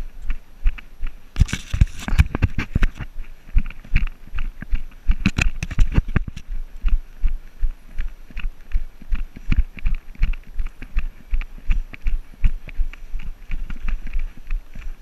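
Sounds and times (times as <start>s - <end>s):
running footsteps on dirt: 0.0s - 15.0s.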